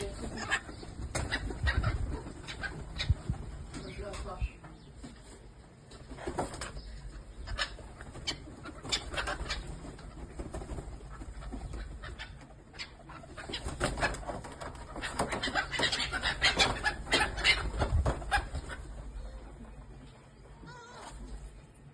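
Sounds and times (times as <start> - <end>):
birds feeding sharp sounds: 0.0 - 21.9.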